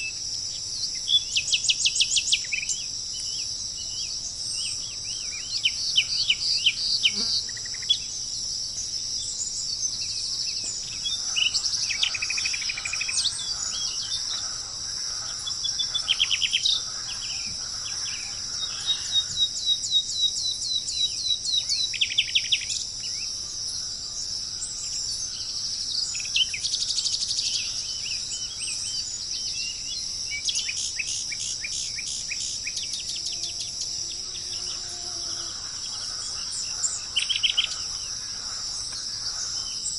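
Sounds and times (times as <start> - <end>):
insects buzzing: 0.0 - 39.9
songbirds chirping: 0.0 - 39.9.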